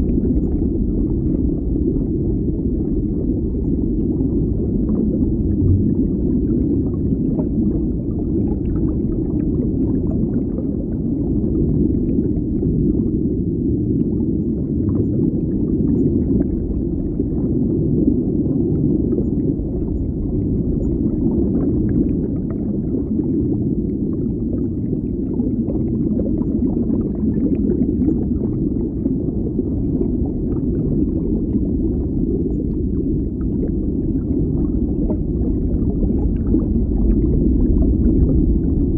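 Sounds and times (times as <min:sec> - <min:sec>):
deep underwater rumble: 0:00.0 - 0:38.9.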